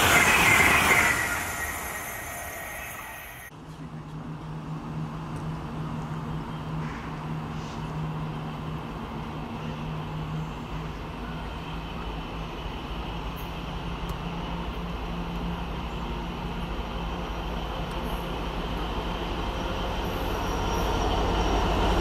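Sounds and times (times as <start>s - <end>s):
diesel locomotive engine droning: 0.0s - 22.0s
freight train rumble: 0.0s - 22.0s.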